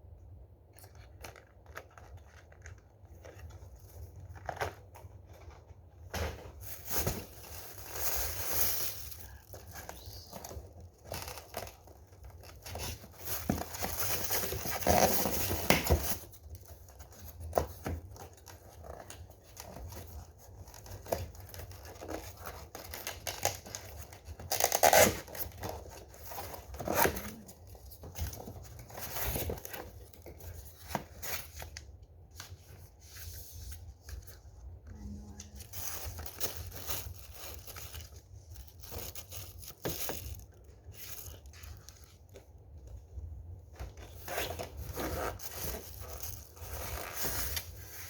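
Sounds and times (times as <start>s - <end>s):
packaging rustling and tearing: 6.5s - 34.4s, 35.5s - 42.5s, 43.8s - 48.0s.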